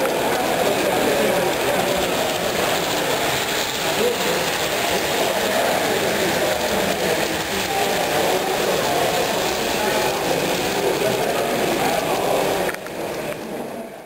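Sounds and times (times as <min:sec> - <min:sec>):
model train running on track: 0:00.0 - 0:14.0
murmur of many people talking: 0:00.0 - 0:14.0.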